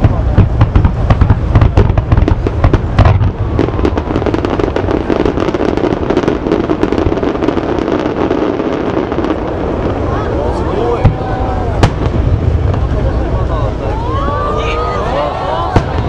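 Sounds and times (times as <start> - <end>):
fireworks booming: 0.0 - 16.0.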